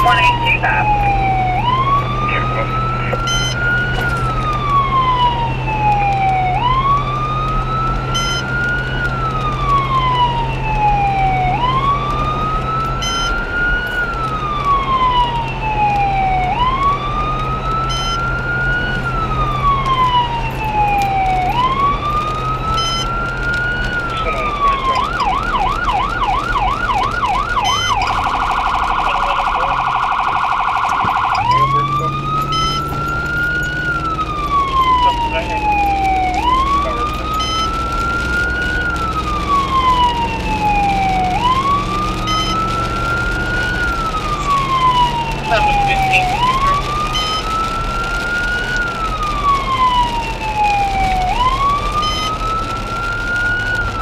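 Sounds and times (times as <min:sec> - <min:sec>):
emergency vehicle siren: 0:00.0 - 0:54.0.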